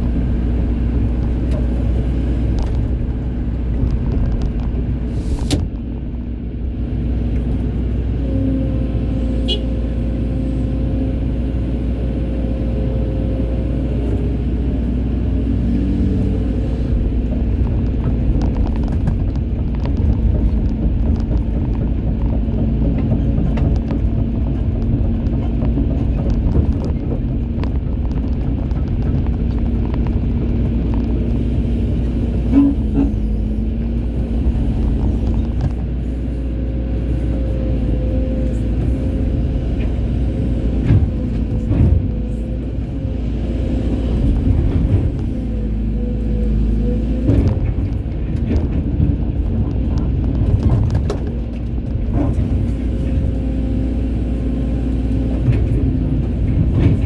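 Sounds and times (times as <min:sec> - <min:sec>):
excavator diesel rumble: 0:00.0 - 0:57.0.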